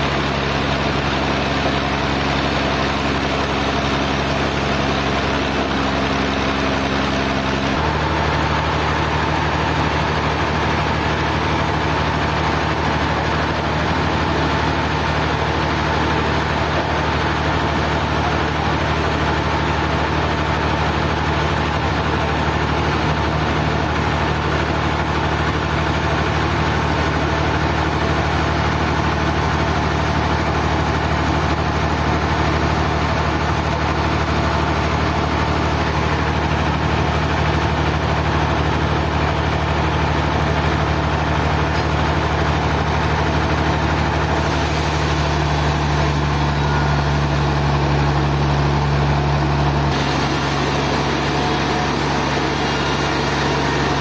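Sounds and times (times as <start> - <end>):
sawmill engine droning: 0.0 - 54.0.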